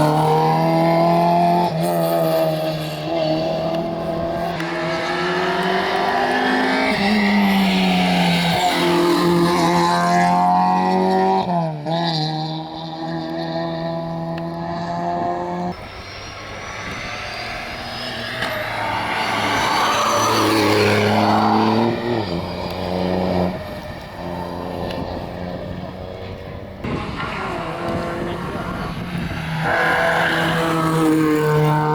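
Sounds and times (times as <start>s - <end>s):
car passing loudly: 0.0s - 31.9s
rally car engine at high revs: 0.0s - 31.9s.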